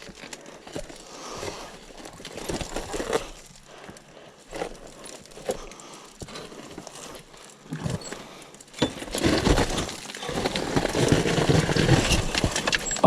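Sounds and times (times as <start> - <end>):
scuffs on dirt and rock: 0.0 - 13.0.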